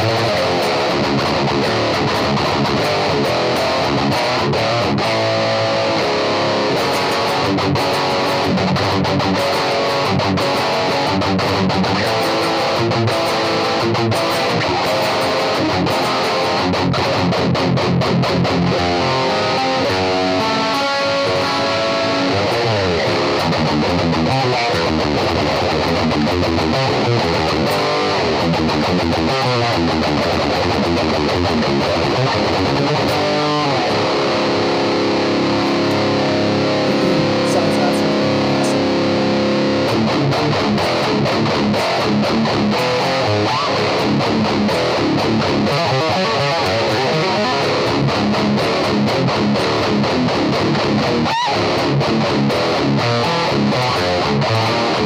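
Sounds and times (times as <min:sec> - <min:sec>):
electric guitar metal riffing: 0:00.0 - 0:55.0.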